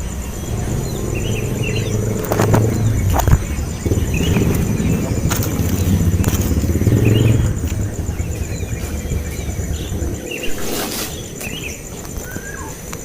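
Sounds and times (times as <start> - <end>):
low rumble: 0.0 - 10.6
high pulsing insect-like buzz: 0.0 - 13.0
nestlings cheeping: 0.0 - 13.0.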